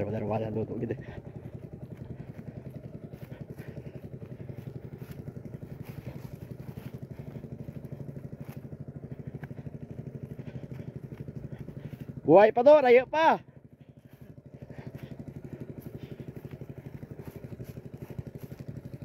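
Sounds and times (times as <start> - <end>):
engine running with fast beat: 0.0 - 19.0.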